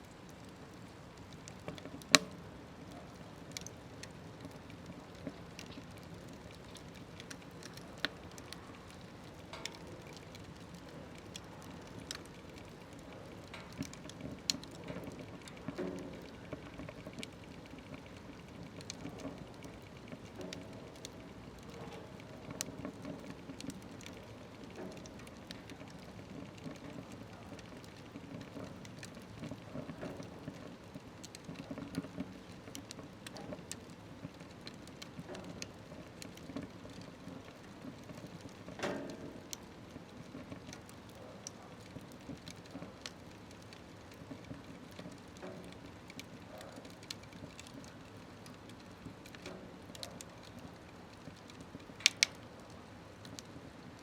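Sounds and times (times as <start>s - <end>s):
wood fire burning in a stove: 0.0s - 54.0s.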